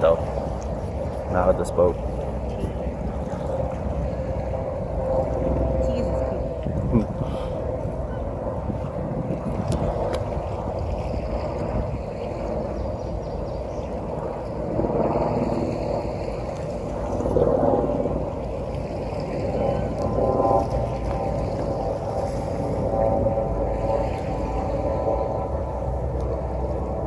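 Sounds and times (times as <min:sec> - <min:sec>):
boat engine running: 0:00.0 - 0:27.0
rushing water: 0:00.0 - 0:27.0
wind: 0:00.0 - 0:27.0.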